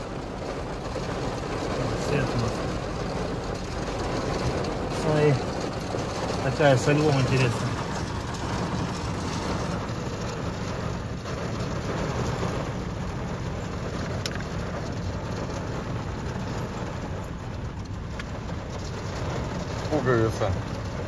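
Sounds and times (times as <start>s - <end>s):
rain on car roof: 0.0s - 21.0s.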